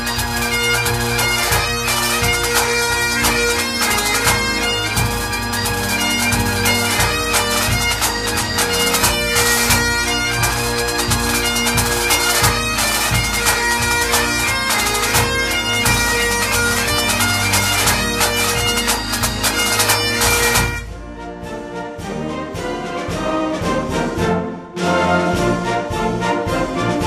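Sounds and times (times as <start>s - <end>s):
bagpipes playing a tune: 0.0s - 23.2s.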